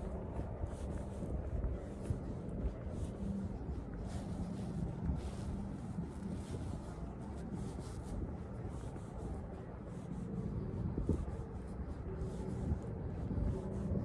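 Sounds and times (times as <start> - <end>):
faint engine hum: 0.0 - 14.0.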